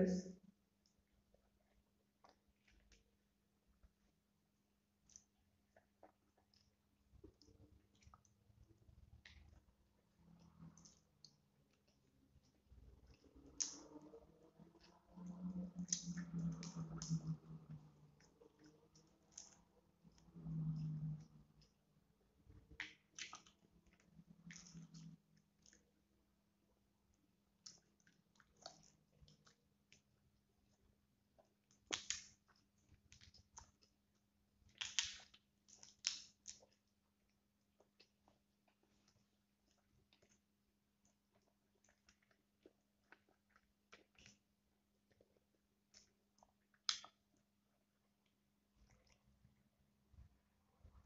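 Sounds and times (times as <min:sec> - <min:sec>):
person chewing: 0:05.0 - 0:21.8, 0:22.5 - 0:26.0, 0:27.6 - 0:49.5.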